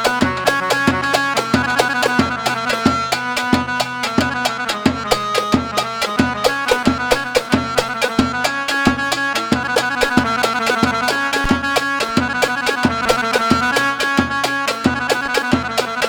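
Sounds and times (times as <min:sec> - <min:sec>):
fast hand-drum rhythm: 0:00.0 - 0:16.0
instrumental melody: 0:00.0 - 0:16.0.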